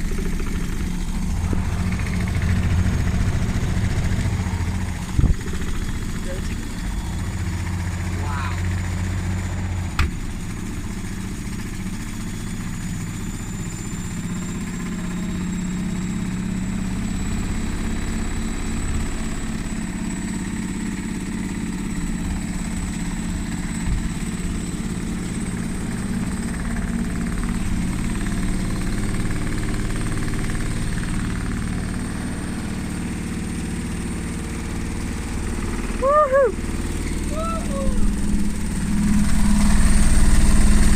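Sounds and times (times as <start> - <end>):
motor whine: 0.0 - 40.9.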